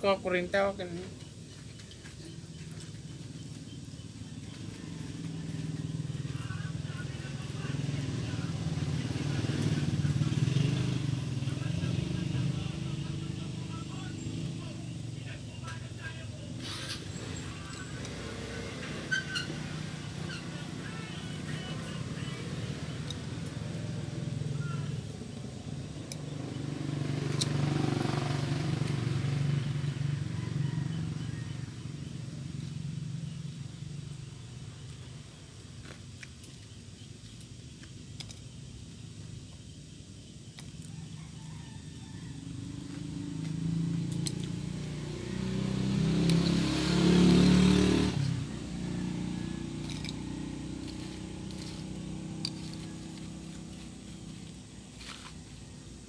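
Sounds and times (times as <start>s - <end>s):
passing vehicle engines: 0.0s - 56.0s.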